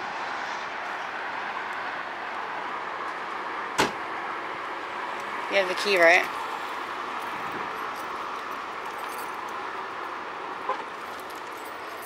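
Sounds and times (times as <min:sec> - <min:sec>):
distant road traffic hiss: 0:00.0 - 0:12.0.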